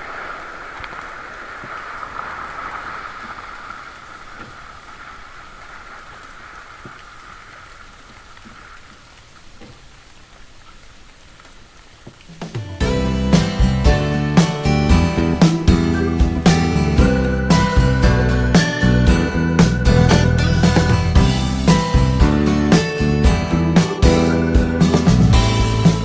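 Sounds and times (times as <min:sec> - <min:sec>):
water hissing: 0:00.0 - 0:21.9.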